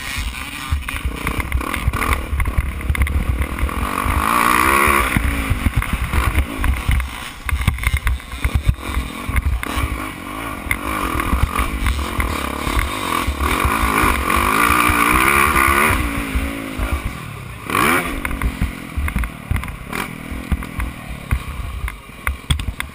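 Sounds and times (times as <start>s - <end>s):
bike knocks and rattles: 0.0s - 22.9s
motocross bike engine revving: 0.0s - 22.9s.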